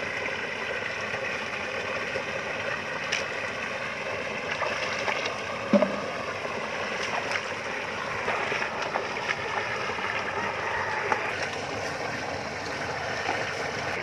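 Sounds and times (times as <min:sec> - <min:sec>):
steady background hum: 0:00.0 - 0:14.0
water sloshing from wading: 0:00.0 - 0:14.0.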